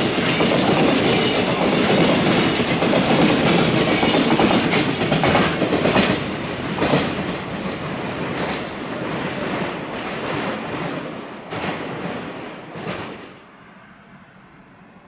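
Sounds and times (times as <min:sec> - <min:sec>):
train wheels clacking over rail joints: 0:00.0 - 0:13.4.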